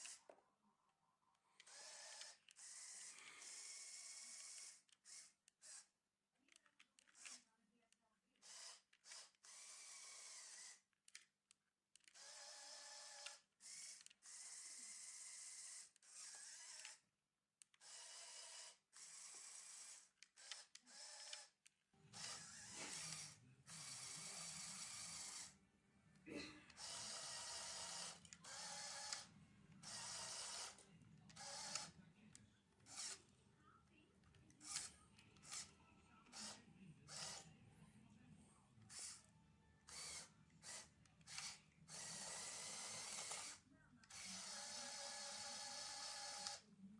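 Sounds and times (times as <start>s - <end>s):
small electric motors whirring: 0.0s - 0.3s, 1.5s - 7.5s, 8.3s - 11.3s, 12.0s - 25.6s, 26.7s - 32.0s, 32.8s - 33.3s, 34.5s - 37.5s, 38.8s - 46.7s.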